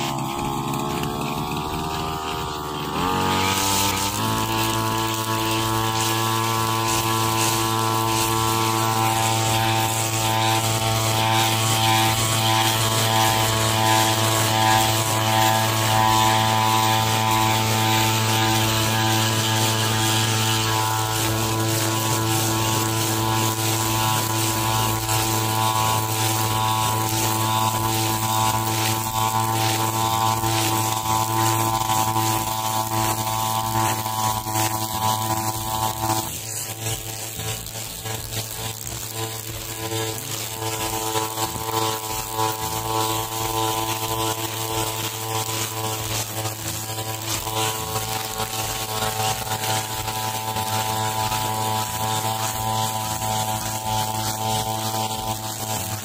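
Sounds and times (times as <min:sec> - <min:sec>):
brush cutter engine cutting grass: 0:00.0 - 0:56.0.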